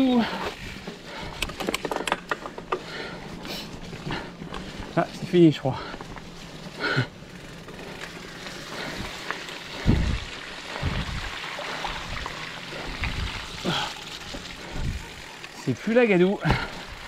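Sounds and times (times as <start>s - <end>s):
bike tyres rolling through mud: 0.0s - 17.0s.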